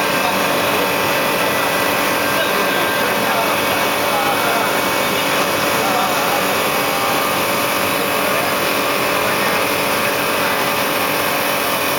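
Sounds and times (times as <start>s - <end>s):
lathe cutting wood: 0.0s - 11.9s.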